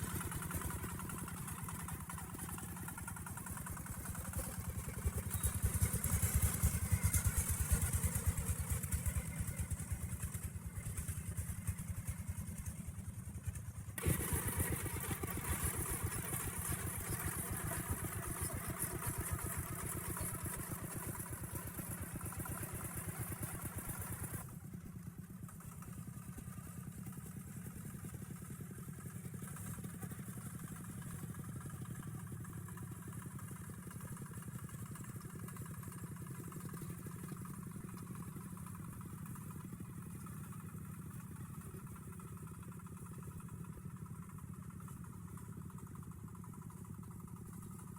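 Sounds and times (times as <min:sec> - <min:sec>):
tractor engine under load: 0:00.0 - 0:47.9.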